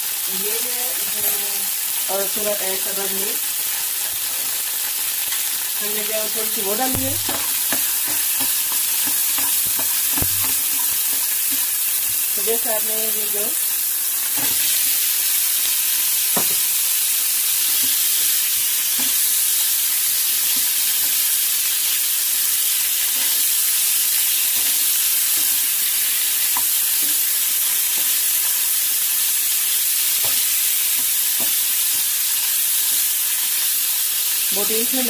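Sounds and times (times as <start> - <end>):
meat sizzling in a pan: 0.0 - 35.0.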